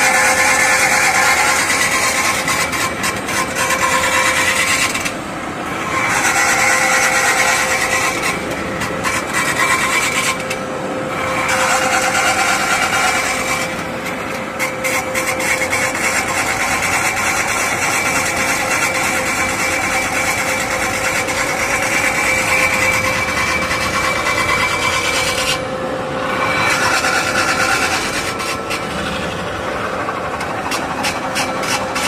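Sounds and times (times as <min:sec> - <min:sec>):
machine hum: 0:00.0 - 0:32.0
roller scraping sheet metal: 0:00.0 - 0:32.0.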